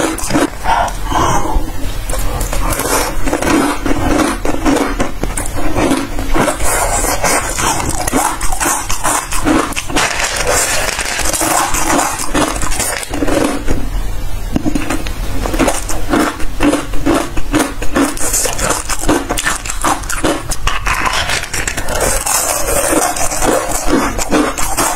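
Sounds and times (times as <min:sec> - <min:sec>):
crunchy snack being chewed: 0:00.0 - 0:13.7, 0:14.6 - 0:24.9.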